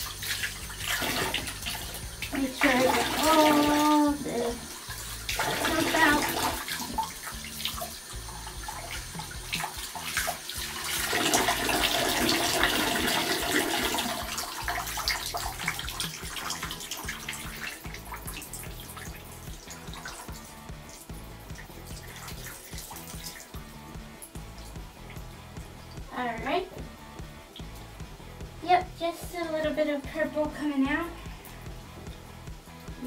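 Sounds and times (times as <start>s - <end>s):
water splashing over hair: 0.0s - 28.0s
water running from bathtub tap: 0.0s - 33.0s.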